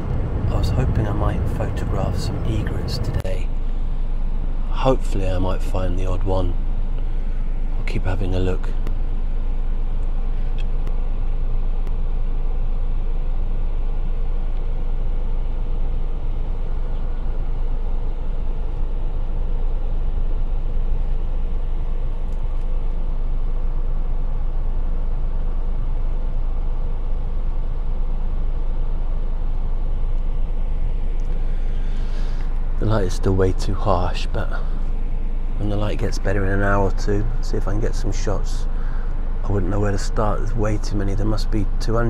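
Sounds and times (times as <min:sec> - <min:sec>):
engine and road rumble: 0:00.0 - 0:42.0
faint steady hum: 0:00.0 - 0:42.0.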